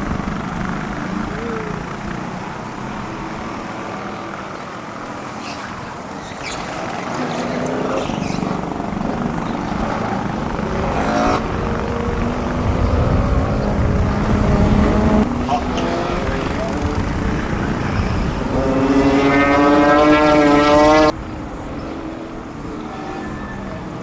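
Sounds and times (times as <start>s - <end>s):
race car engines: 0.0s - 24.0s.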